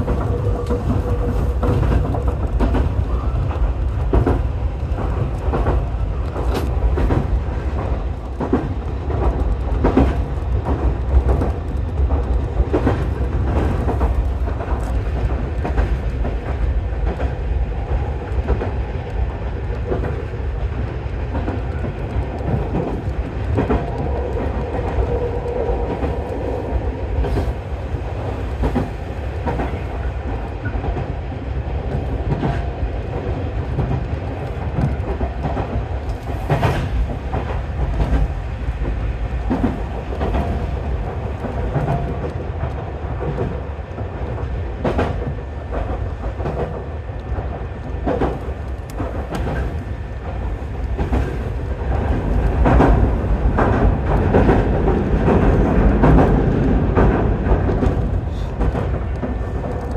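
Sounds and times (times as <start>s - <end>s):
train running low rumble: 0.0s - 59.9s.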